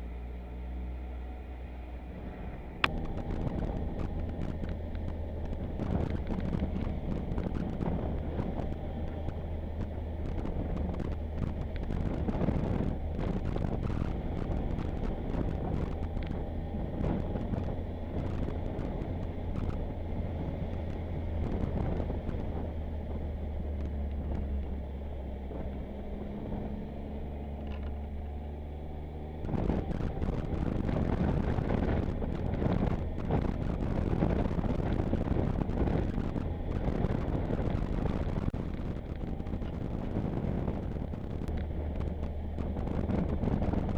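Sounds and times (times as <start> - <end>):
motorcycle engine running: 2.1 - 43.9
wind rushing over microphone: 2.1 - 43.9.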